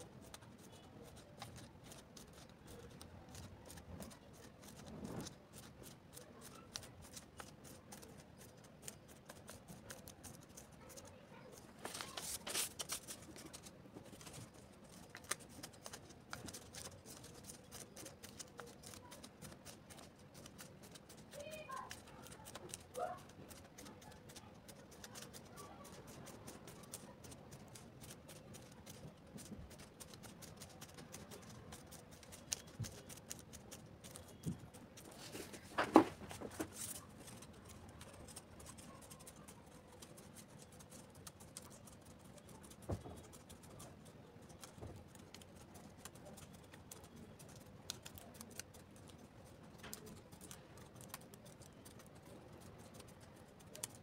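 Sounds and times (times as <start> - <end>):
faint clicks taps and scratching: 0.0 - 54.0.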